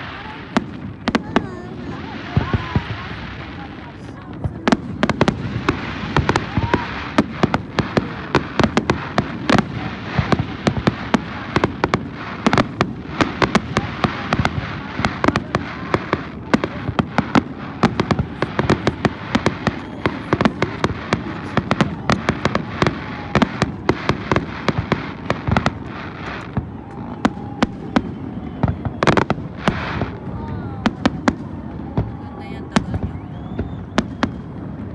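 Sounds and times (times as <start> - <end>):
fireworks cracks and bangs: 0.0 - 34.9.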